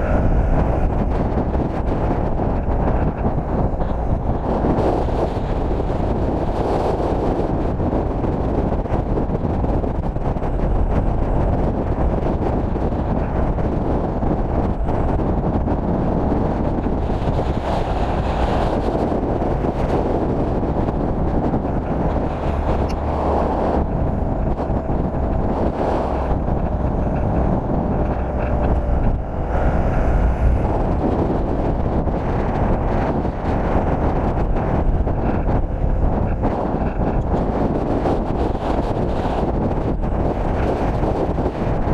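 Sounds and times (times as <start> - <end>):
skateboard wheels rumbling on asphalt: 0.0 - 41.9
wind buffeting microphone: 0.0 - 41.9.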